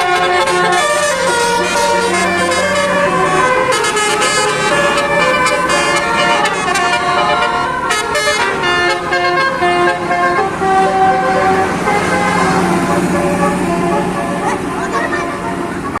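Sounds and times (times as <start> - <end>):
musical bus horn: 0.0 - 16.0.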